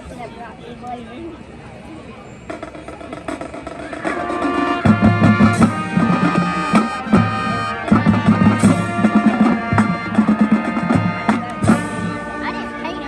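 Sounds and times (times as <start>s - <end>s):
brass and wind chords: 2.5s - 13.0s
marching drums: 2.5s - 13.0s.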